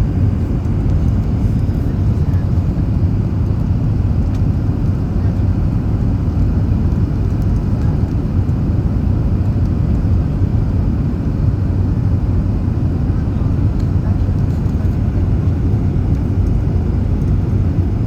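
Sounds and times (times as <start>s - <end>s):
airliner landing rumble: 0.0s - 18.0s.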